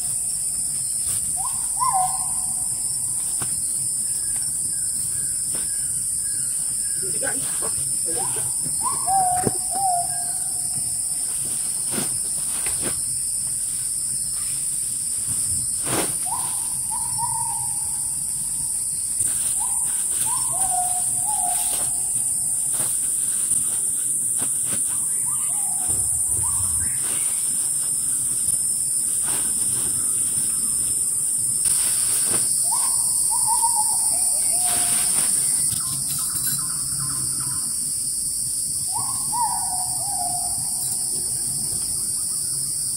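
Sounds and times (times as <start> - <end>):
high-pitched insect drone: 0.0 - 42.9.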